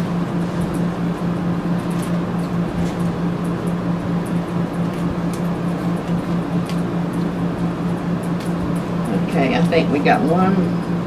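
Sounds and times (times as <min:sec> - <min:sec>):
fan humming with fast pulse: 0:00.0 - 0:11.0.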